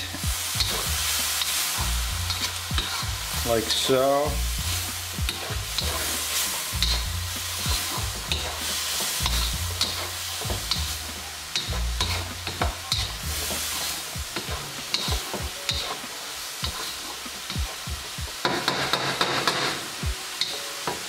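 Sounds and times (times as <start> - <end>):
food sizzling in a wok: 0.0 - 21.0
spatula scraping a wok: 0.0 - 21.0.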